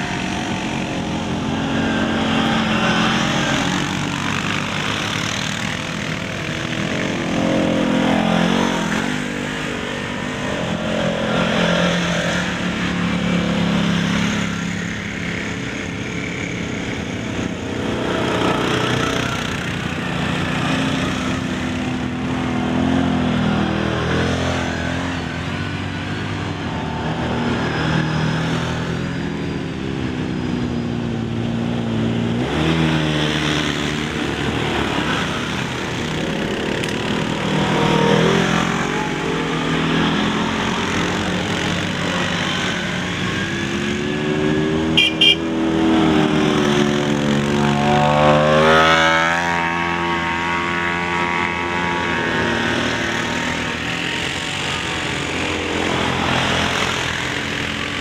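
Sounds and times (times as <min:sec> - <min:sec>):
atv engines driving past: 0:00.0 - 0:58.0.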